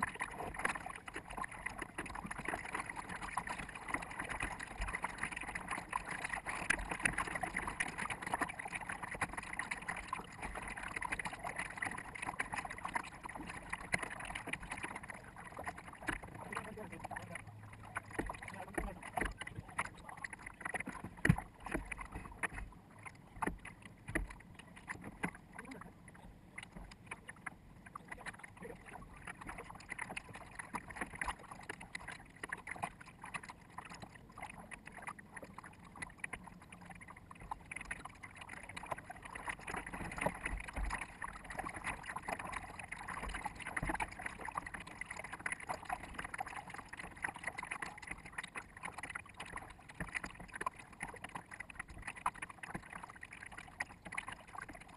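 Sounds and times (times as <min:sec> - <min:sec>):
water splashing along a boat: 0:00.0 - 0:54.9.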